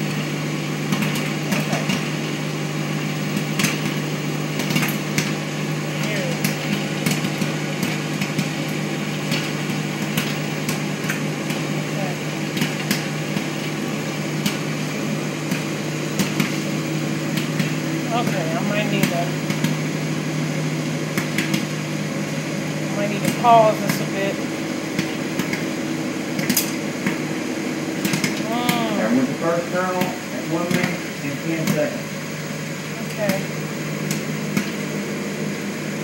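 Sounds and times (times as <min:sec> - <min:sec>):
popcorn popping: 0:00.0 - 0:35.6
grill fan hum: 0:00.0 - 0:36.0.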